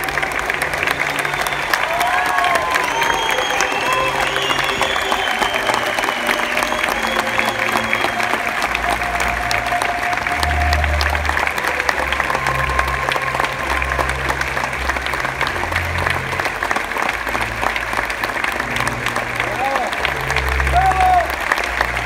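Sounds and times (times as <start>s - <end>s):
audience clapping: 0.0s - 22.0s.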